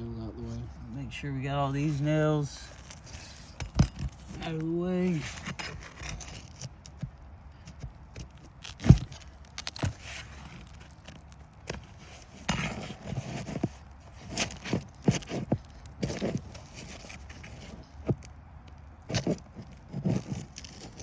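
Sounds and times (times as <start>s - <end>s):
scraping: 0.4s - 21.0s
hand tools clicking and knocking: 2.7s - 21.0s.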